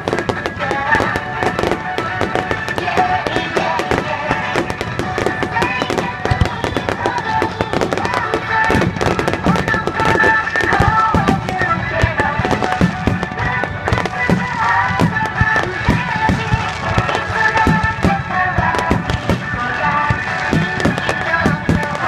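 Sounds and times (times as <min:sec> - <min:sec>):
fireworks bursting and crackling: 0:00.0 - 0:22.0
music from loudspeakers: 0:00.0 - 0:22.0.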